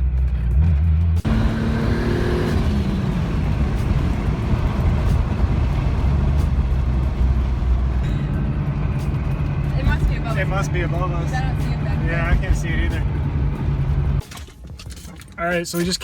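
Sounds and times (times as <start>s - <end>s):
car engine running: 0.0s - 16.0s
road and wind noise: 0.0s - 16.0s.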